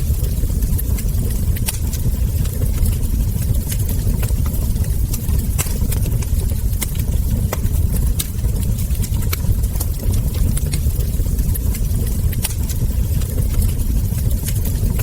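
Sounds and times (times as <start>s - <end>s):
low rumble of fire: 0.0s - 15.0s
wood fire crackling: 0.0s - 15.0s.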